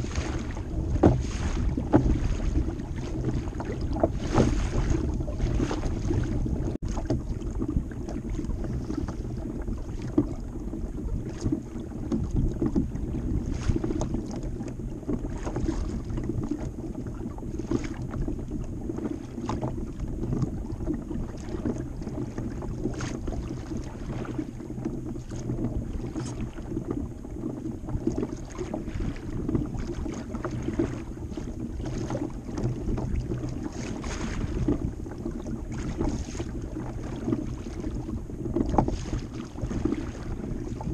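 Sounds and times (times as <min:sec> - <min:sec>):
water splashing against kayak hull: 0:00.0 - 0:40.9
wind rumbling on microphone: 0:00.0 - 0:40.9.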